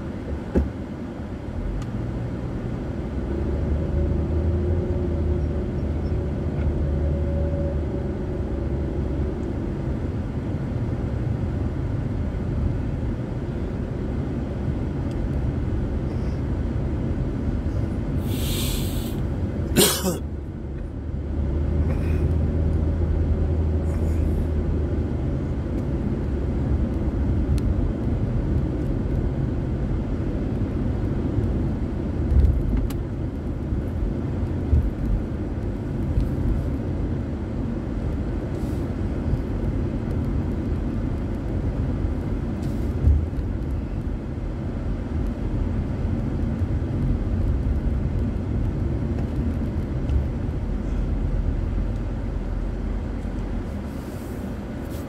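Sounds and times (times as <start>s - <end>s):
engine and tyre rumble in car: 0.0s - 55.0s.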